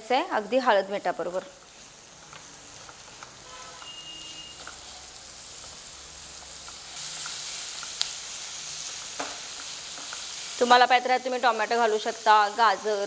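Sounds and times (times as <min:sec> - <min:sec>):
onions sizzling in hot oil: 0:00.1 - 0:13.0.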